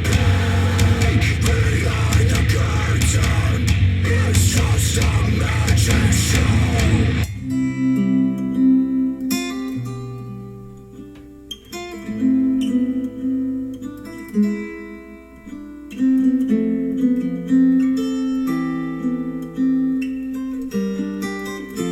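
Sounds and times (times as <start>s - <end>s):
plucked acoustic guitar: 0.0s - 21.9s.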